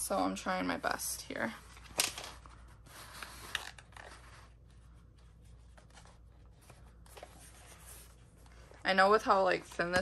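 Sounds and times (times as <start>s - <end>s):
paper rustling and scraping: 1.4s - 10.0s.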